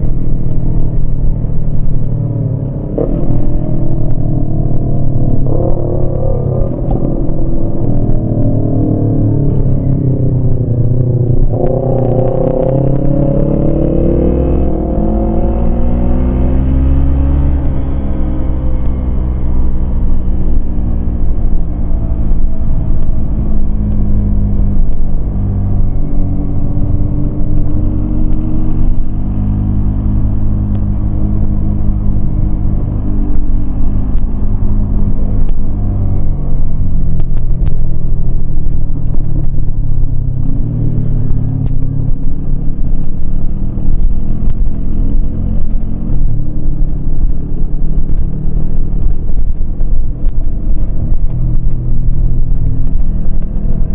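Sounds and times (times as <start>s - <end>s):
motorcycle engine revving: 0.8s - 53.9s.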